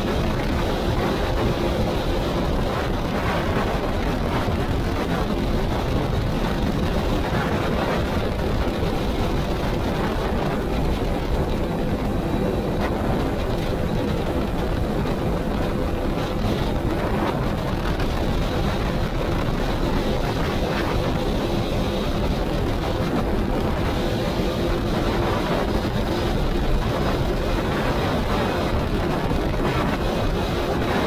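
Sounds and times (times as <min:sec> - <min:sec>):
atv engine running: 0:00.0 - 0:31.0
wind noise on microphone: 0:00.0 - 0:31.0.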